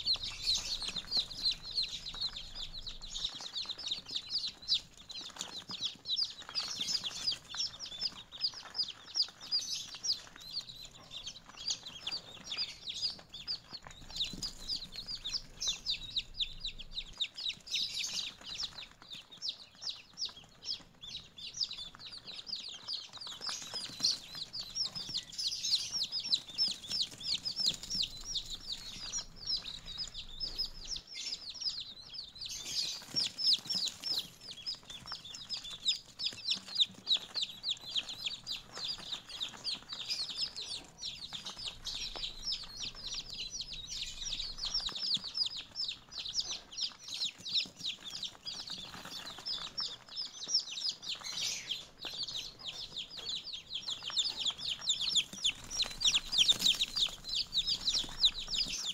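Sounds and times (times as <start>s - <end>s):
chicks and ducklings peeping: 0.0s - 58.9s.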